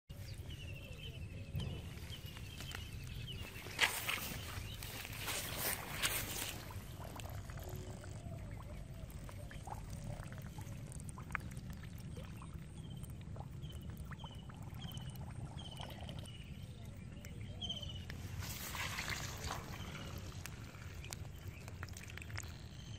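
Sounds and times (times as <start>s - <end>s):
squelching in mud and water: 0.1s - 22.9s.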